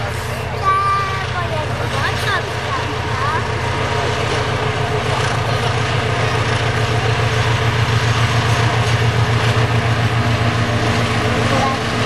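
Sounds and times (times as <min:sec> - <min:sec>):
diesel locomotive passing: 0:00.0 - 0:12.0.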